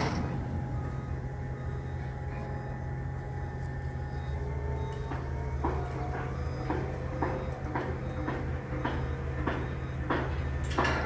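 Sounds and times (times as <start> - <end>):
faint steady whine: 0.0 - 11.0
heavy machinery engine drone: 0.0 - 11.0.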